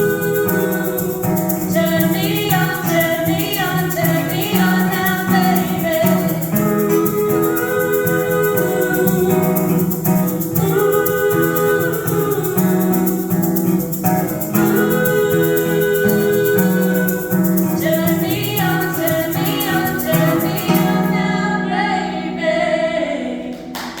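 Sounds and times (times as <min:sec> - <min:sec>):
shaker rhythm: 0:00.0 - 0:21.4
person singing: 0:00.0 - 0:24.0
plucked guitar: 0:00.0 - 0:24.0.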